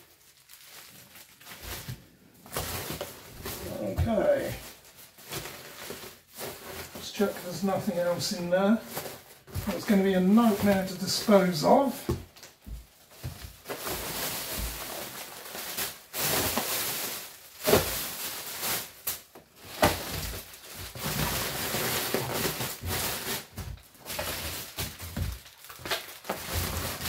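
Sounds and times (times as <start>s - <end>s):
bubble wrap rustling and crinkling: 0.0s - 27.0s.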